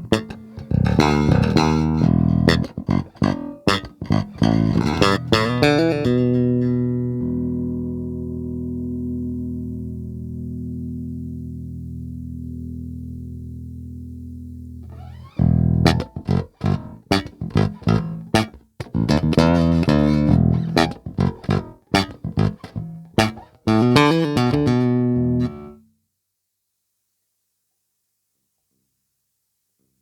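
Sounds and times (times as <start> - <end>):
electric bass plucked notes: 0.0 - 25.8.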